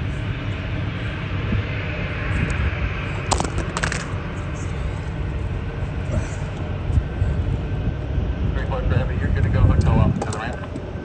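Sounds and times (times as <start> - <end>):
airport background rumble and hiss: 0.0 - 11.0.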